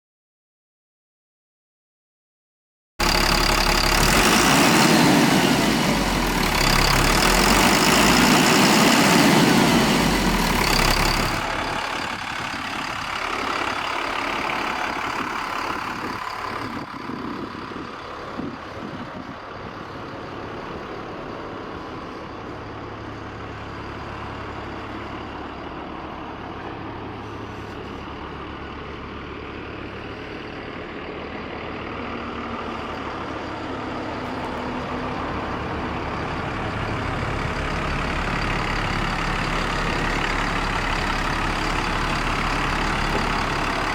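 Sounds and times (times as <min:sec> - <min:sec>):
bus engine running: 0:03.0 - 0:43.9.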